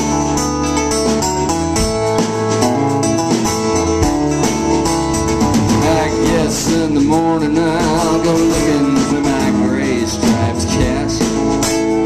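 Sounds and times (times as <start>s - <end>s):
held keyboard chords: 0.0s - 9.7s
electric guitar: 0.0s - 12.0s
live band playing: 0.0s - 12.0s.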